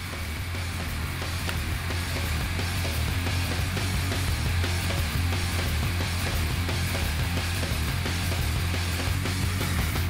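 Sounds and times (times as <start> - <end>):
rock music with electric guitars: 0.0 - 10.0.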